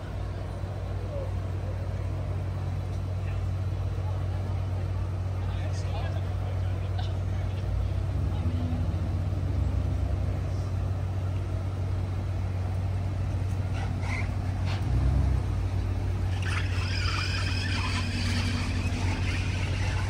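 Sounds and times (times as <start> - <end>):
traffic engine rumble: 0.0 - 20.0.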